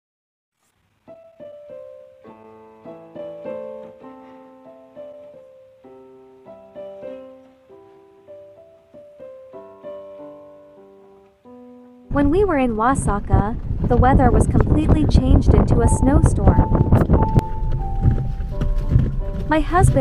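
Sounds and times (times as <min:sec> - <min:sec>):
solo piano music: 0:00.9 - 0:20.0.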